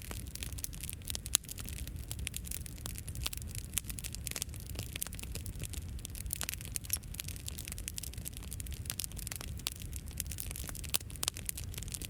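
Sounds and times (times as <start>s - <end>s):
bonfire crackling: 0.0s - 12.0s.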